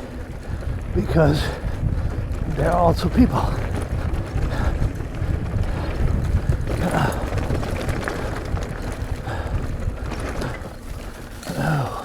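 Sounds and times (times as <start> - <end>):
bike rumbling on dirt trail: 0.0 - 12.0
wind buffeting microphone: 0.0 - 12.0.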